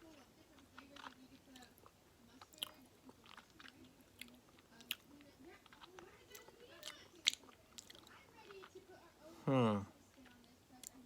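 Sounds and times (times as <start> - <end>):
person chewing gummy snack: 0.0 - 8.9, 10.2 - 11.0.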